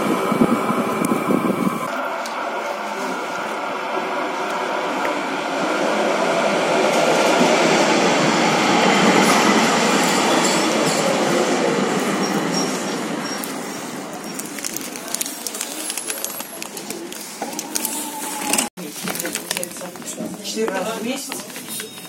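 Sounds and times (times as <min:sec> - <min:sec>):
train wheels rumbling on rails: 0:00.0 - 0:18.7.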